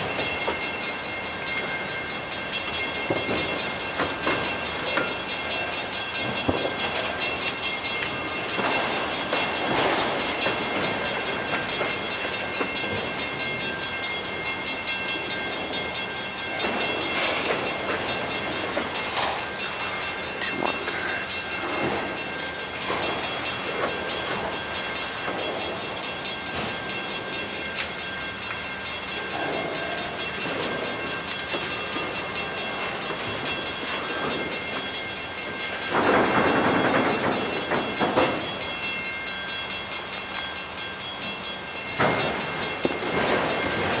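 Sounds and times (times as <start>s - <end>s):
high-pitched ringing tones: 0.0s - 44.0s
train wheels rumbling on rails: 0.0s - 44.0s.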